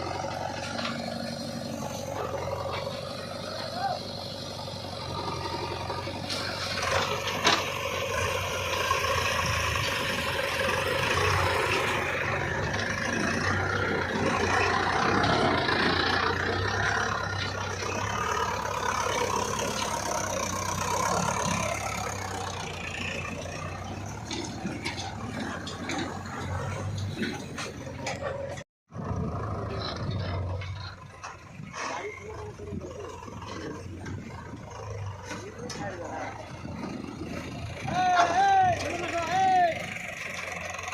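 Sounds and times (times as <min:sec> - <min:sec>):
heavy machinery diesel engine: 0:00.0 - 0:40.9.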